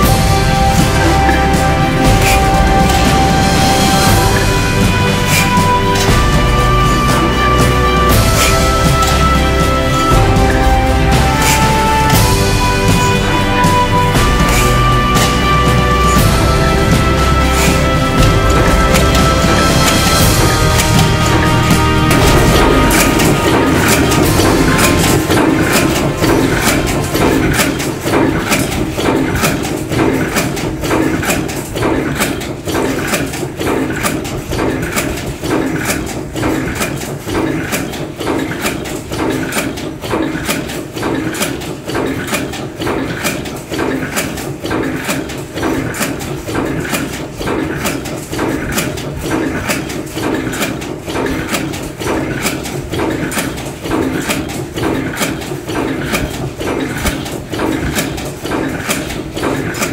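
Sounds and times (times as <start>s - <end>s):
cold-forging machine strokes: 0.0s - 59.9s.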